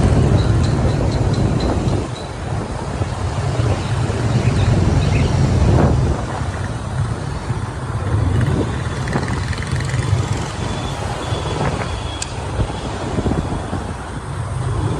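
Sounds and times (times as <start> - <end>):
street traffic and engines: 0.0 - 14.9
wind buffeting microphone: 0.0 - 14.9.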